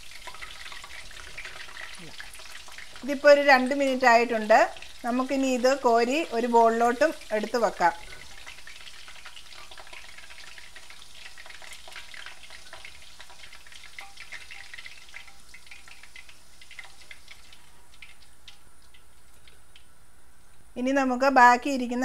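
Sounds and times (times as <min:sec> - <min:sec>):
beef frying in hot oil: 0:00.0 - 0:20.0.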